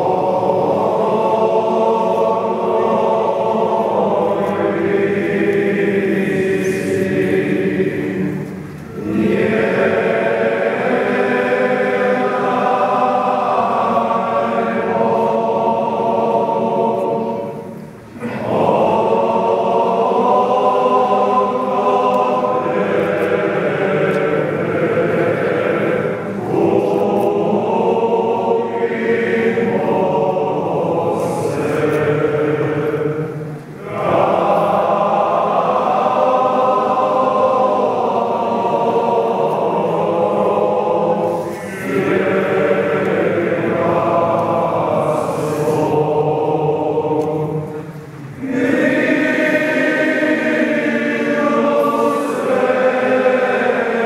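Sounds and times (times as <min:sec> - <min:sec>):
group singing church chant: 0:00.0 - 0:54.0.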